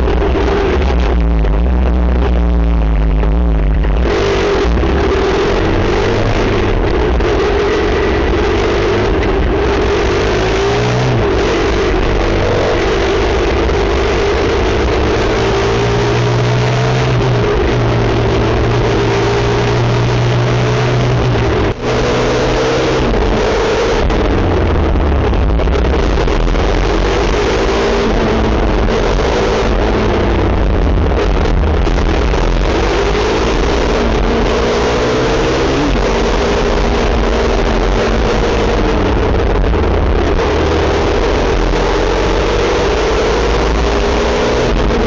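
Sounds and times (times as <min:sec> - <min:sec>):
motorcycle engine running: 0:00.0 - 0:45.0
rushing wind and road noise: 0:00.0 - 0:45.0.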